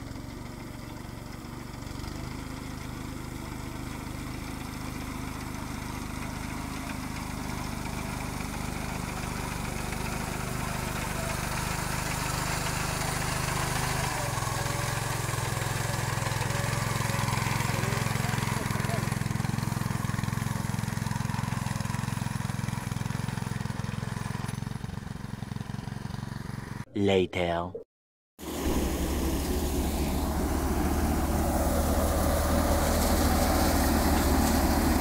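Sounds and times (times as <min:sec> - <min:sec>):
rice reaper engine running: 0:00.0 - 0:26.8, 0:28.4 - 0:35.0.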